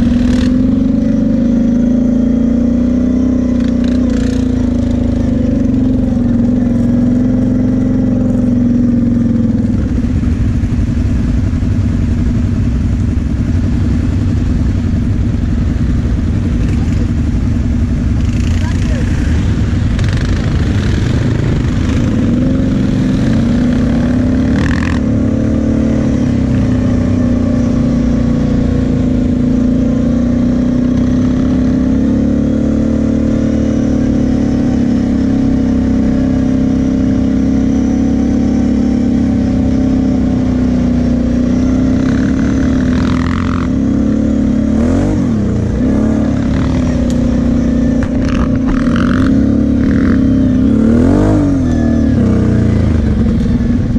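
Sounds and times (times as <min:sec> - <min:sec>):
quad engine running: 0:00.0 - 0:53.9.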